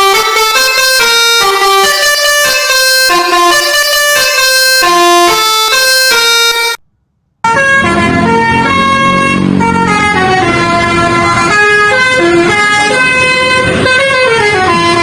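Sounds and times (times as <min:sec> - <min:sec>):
musical bus air horn: 0:00.0 - 0:06.8, 0:07.4 - 0:15.0.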